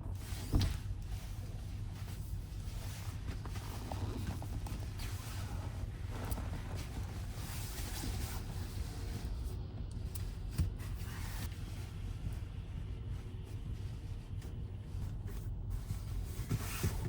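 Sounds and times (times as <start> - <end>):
rubbing and rustling handling noise: 0.1 - 9.4, 10.4 - 17.0.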